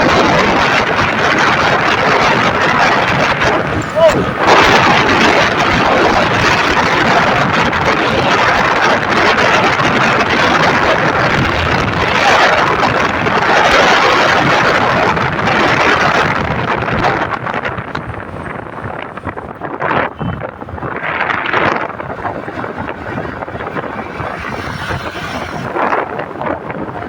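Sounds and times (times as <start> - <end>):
road noise: 0.0 - 27.0
wind rushing over microphone: 0.0 - 27.0.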